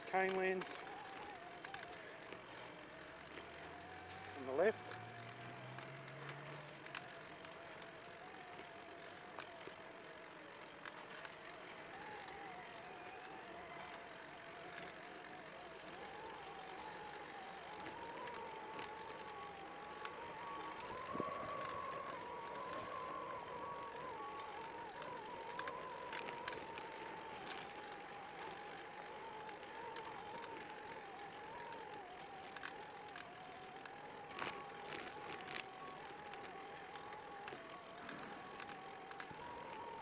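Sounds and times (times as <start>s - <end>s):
light ticks: 0.0s - 40.0s
trike rolling on concrete: 0.0s - 40.0s
wavering whine: 0.0s - 40.0s.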